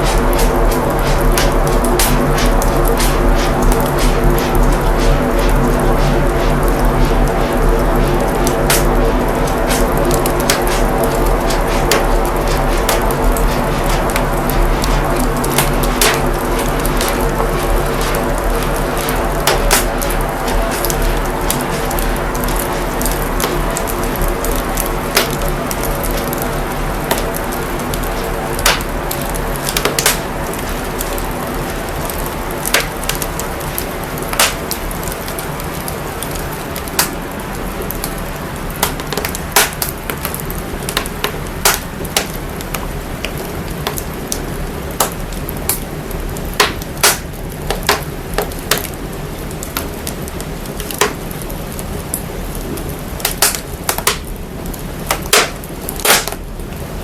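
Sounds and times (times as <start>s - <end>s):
processed fire crackling: 0.0s - 57.0s.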